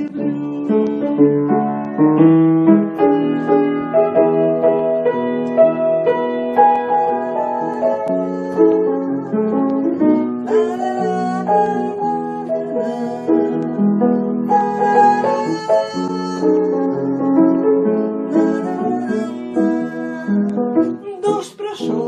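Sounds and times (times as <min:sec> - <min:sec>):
keyboard melody over chords: 0:00.0 - 0:21.0.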